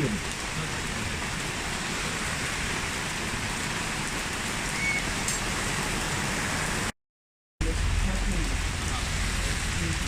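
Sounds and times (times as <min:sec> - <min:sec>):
steady rain falling: 0:00.0 - 0:06.9, 0:07.6 - 0:10.0.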